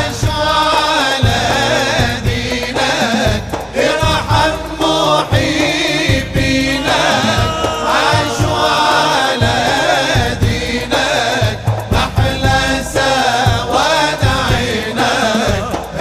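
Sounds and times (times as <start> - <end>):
steady drum beat: 0.0 - 16.0
voices singing a melody: 0.0 - 16.0.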